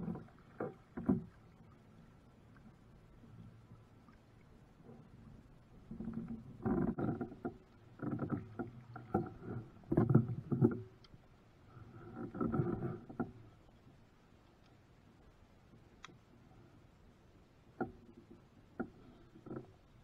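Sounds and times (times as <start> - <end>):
paddle strokes in water: 0.0 - 14.5, 17.7 - 20.0.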